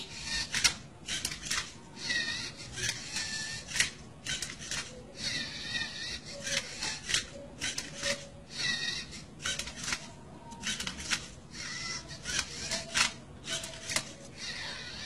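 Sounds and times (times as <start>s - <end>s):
cube layers clicking and scraping: 0.0s - 15.0s
robot motors whirring: 0.0s - 15.0s.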